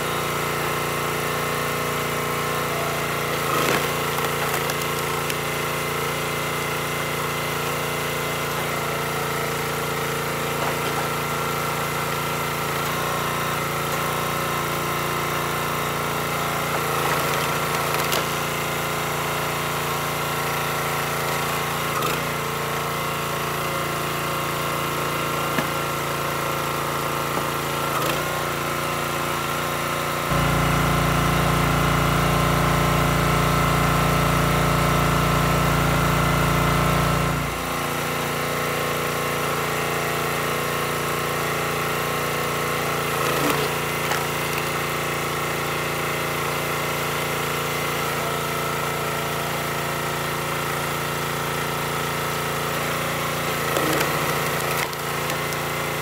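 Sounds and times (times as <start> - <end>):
log splitter engine running: 0.0 - 56.0.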